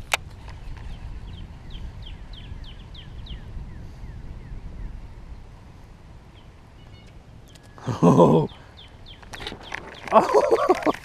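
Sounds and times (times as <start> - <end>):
songbird calling: 0.2 - 5.6, 6.2 - 11.0.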